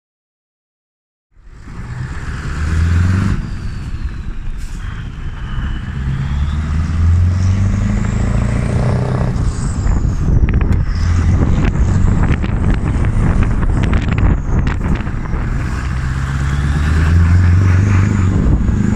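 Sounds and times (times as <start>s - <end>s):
diesel truck engine pulling away: 1.4s - 18.9s.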